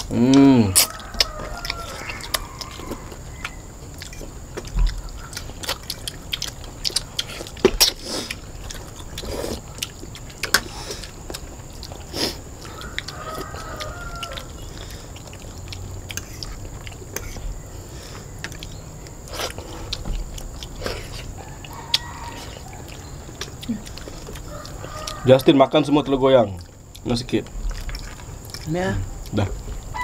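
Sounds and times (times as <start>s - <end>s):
people chewing noodles: 0.0s - 30.0s.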